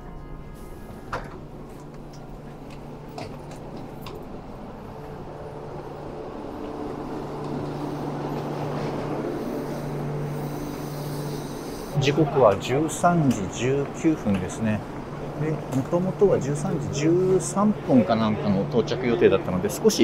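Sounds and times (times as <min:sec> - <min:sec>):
train humming: 0:00.0 - 0:20.0.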